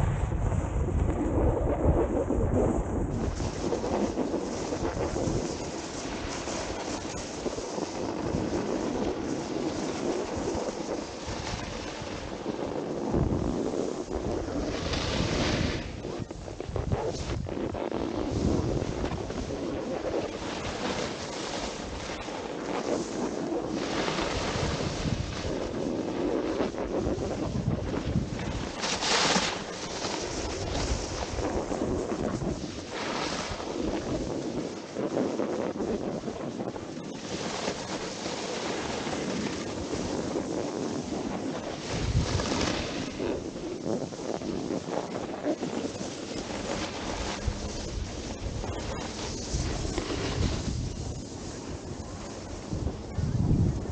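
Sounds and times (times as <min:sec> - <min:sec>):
snowboard scraping on snow: 0:00.0 - 0:53.9
wind buffeting microphone: 0:00.0 - 0:53.9.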